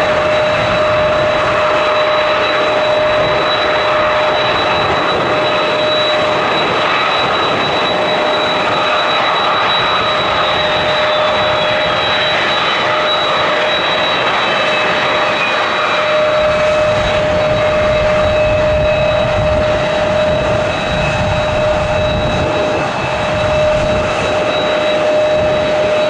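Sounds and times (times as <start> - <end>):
jet engines whining and roaring: 0.0 - 26.0.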